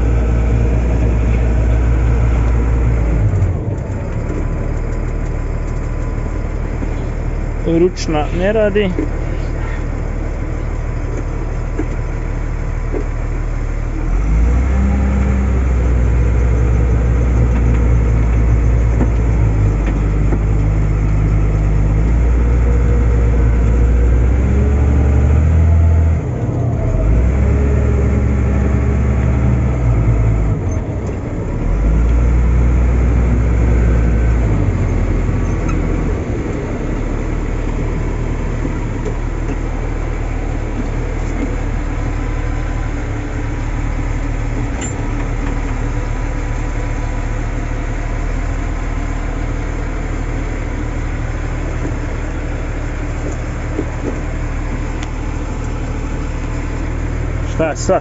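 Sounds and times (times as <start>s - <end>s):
wheel loader diesel engine revving: 0.0s - 58.0s.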